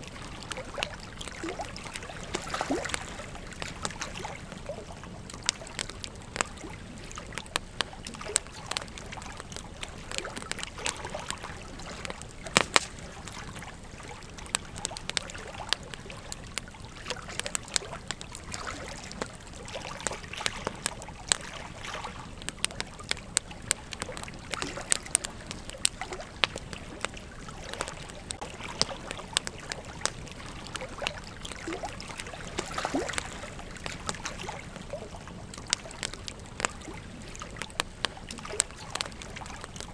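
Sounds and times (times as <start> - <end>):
campfire crackling and popping: 0.0 - 39.9
fire low hiss: 0.0 - 39.9.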